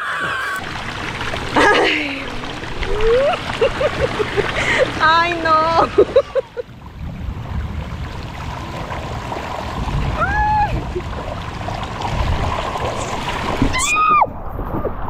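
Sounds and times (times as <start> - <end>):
water rushing down a slide: 0.0 - 15.0.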